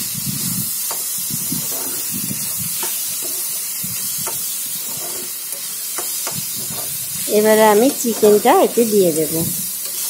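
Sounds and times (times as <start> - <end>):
onions sizzling in hot oil: 0.0 - 10.0
spatula scraping a pan: 0.0 - 10.0.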